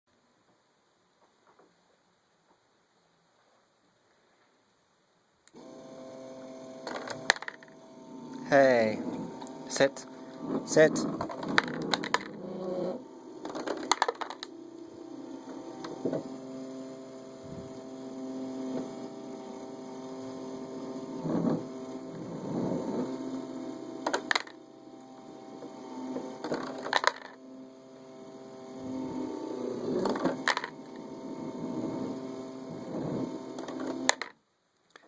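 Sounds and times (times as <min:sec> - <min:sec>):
small motor humming: 0:05.5 - 0:34.3.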